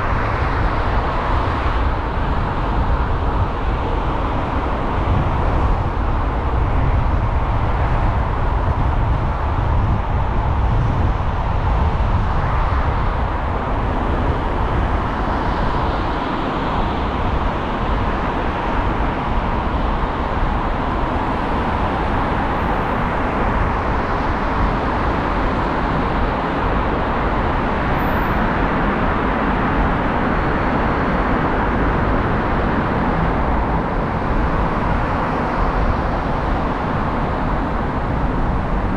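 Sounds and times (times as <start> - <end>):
car tyre road noise: 0.0 - 38.9.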